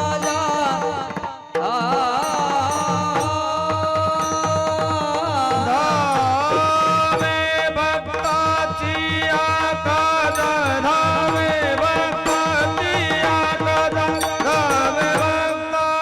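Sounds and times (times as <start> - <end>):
hand drum steady rhythm: 0.0 - 15.7.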